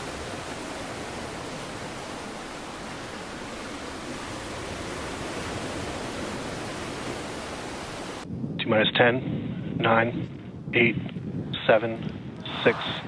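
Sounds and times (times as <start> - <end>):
steady broadband rushing noise: 0.0 - 9.2, 9.8 - 13.0.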